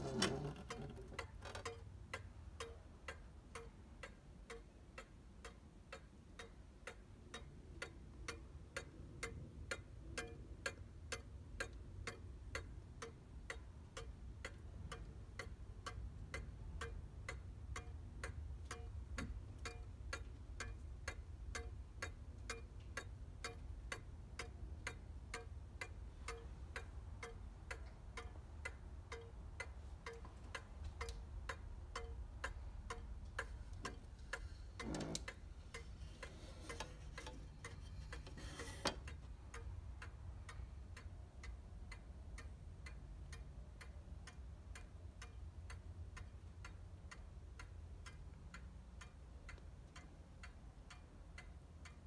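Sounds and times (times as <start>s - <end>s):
mantel clock ticking: 0.0s - 52.0s.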